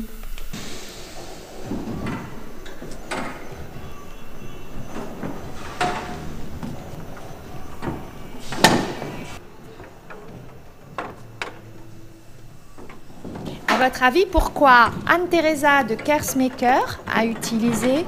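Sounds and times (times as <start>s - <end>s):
chairs knocking and clattering: 1.5s - 18.0s.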